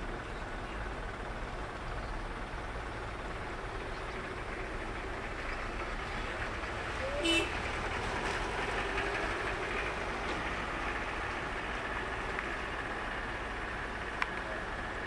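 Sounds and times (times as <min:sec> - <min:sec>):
vehicle interior engine noise: 0:00.0 - 0:15.0.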